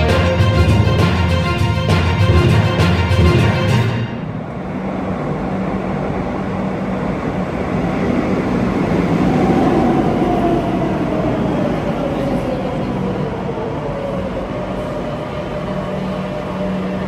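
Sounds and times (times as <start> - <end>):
train rail rumble: 0.0 - 17.0.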